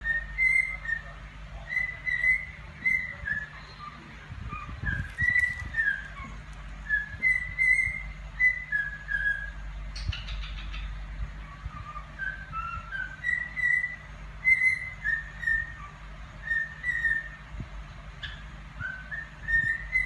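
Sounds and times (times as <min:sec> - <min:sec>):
cockatiel whistling a tune: 0:00.0 - 0:09.6, 0:11.6 - 0:17.4, 0:18.2 - 0:20.0.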